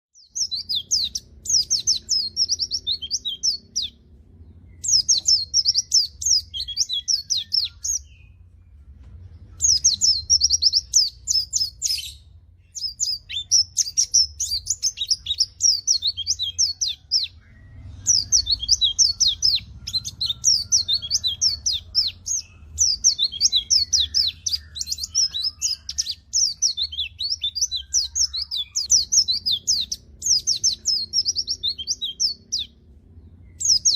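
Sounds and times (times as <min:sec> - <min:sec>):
bird twittering: 0:00.2 - 0:04.0, 0:04.6 - 0:08.5, 0:09.5 - 0:32.8, 0:33.4 - 0:33.9.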